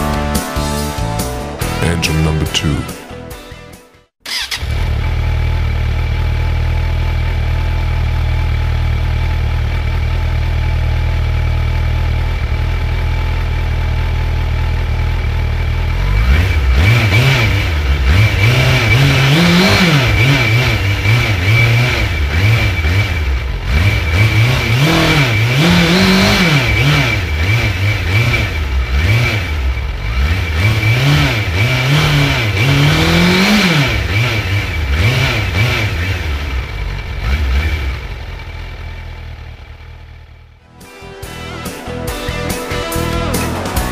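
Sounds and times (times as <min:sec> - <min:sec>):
motorcycle engine idling and revving: 0:04.2 - 0:40.8.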